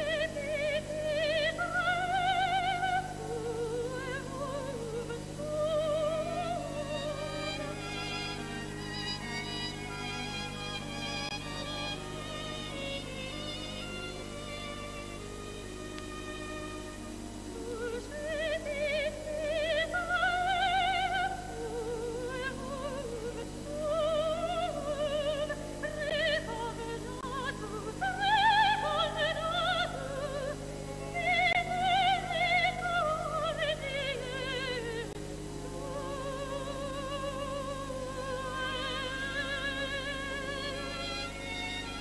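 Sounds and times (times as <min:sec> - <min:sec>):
sustained music accompaniment: 0:00.0 - 0:42.0.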